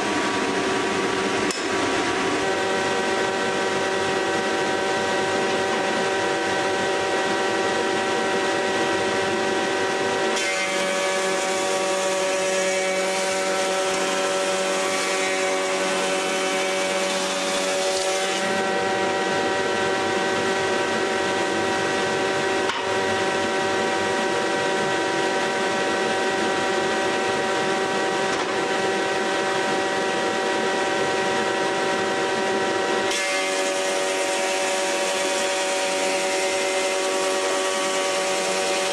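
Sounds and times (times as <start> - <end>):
planer and dust extractor whine: 0.0 - 38.9
planer cutting board: 0.0 - 38.9.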